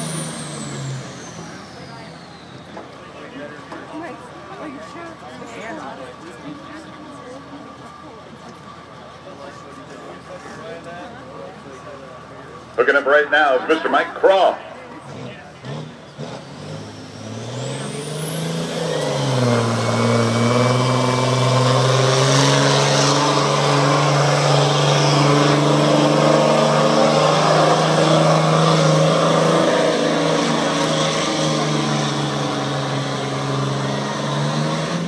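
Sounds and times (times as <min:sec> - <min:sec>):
diesel truck engine revving: 0:00.0 - 0:09.2, 0:11.7 - 0:35.0.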